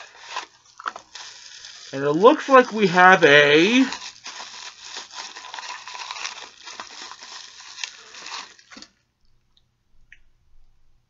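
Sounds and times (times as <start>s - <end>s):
plastic wrapping crinkling: 0.0s - 9.1s.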